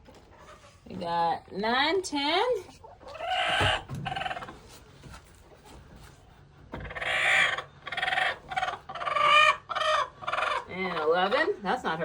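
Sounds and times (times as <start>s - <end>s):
chickens calling: 0.0s - 0.9s, 2.6s - 12.0s.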